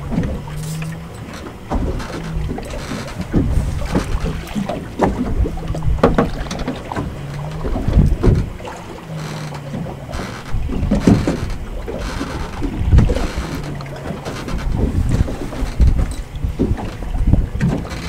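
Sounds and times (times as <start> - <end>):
short knocks: 0.0 - 18.0
water lapping against boat hull: 0.0 - 18.0
wind buffeting microphone: 0.0 - 18.0.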